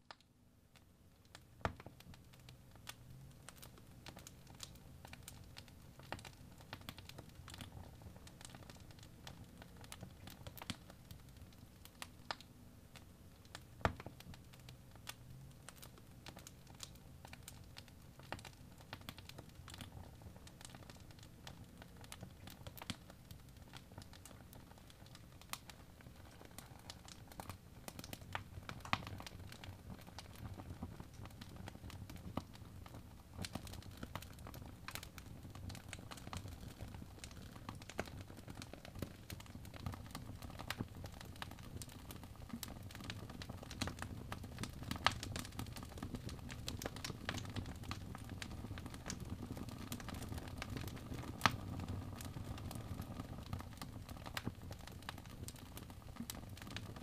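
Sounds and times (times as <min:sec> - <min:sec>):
wood fire crackling: 0:00.0 - 0:57.0
low rumble of burning: 0:00.6 - 0:57.0.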